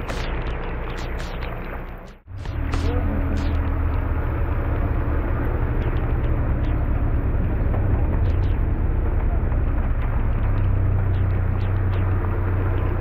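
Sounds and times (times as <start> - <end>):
jeep engine running under load: 0.0 - 13.0.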